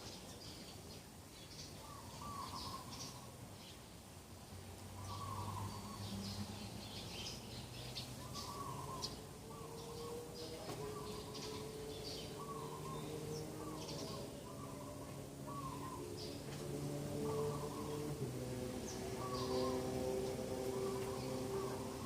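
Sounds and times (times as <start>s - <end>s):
birds chirping: 0.0s - 4.0s, 4.7s - 22.0s.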